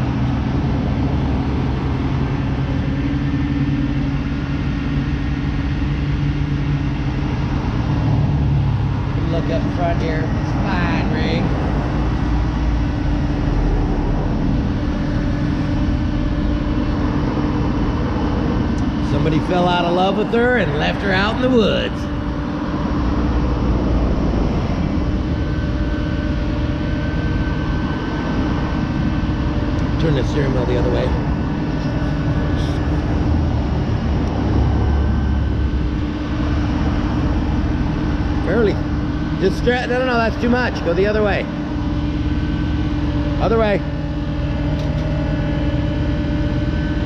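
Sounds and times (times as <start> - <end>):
engine droning: 0.0 - 47.0.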